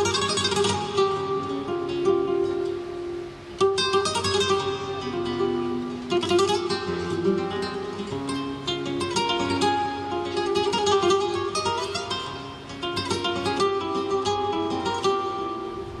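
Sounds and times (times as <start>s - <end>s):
flamenco acoustic guitar: 0.0s - 16.0s.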